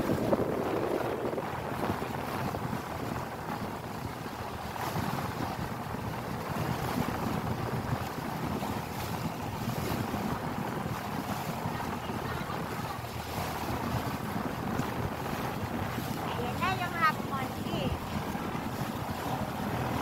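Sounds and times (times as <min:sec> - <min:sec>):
water rushing past boat: 0:00.0 - 0:20.0
wind buffeting microphone: 0:00.0 - 0:20.0.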